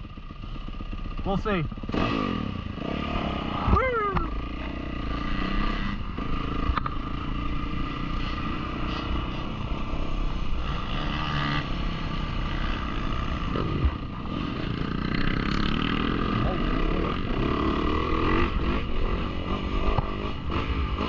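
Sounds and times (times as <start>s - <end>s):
dirt bike engine at low revs: 0.0s - 21.0s.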